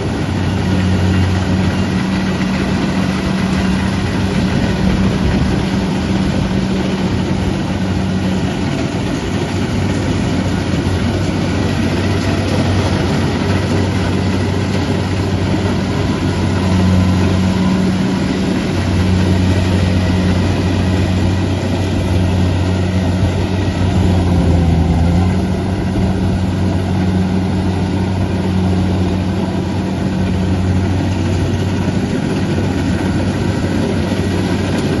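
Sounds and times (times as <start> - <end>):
diesel engine humming: 0.0 - 35.0.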